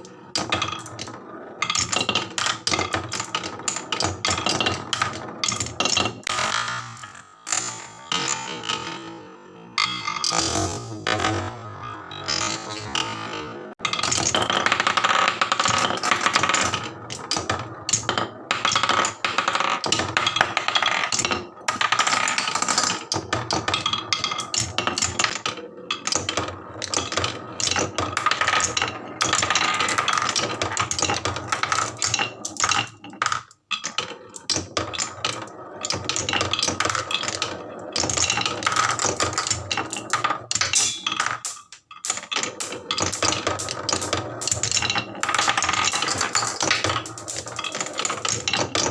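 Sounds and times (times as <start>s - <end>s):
marbles rolling on wooden tracks: 0.0s - 48.9s.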